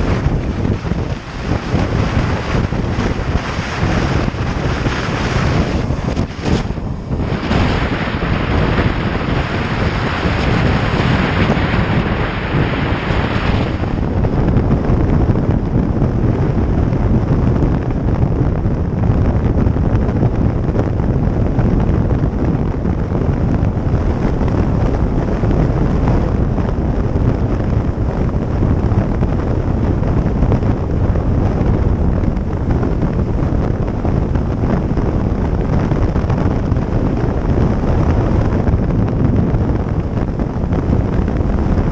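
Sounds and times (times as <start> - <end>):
road noise rumble: 0.0 - 41.9
wind buffeting microphone: 0.0 - 41.9.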